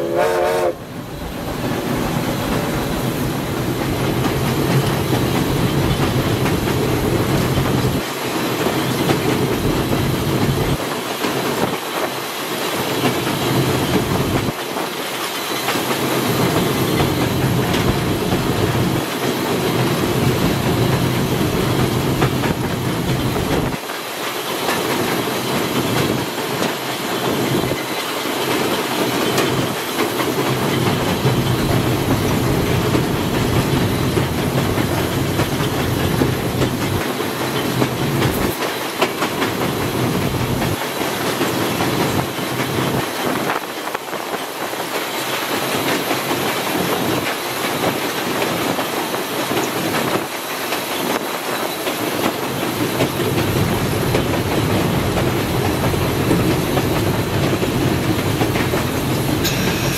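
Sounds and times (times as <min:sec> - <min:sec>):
steam locomotive rumbling and rattling: 0:00.0 - 0:59.9.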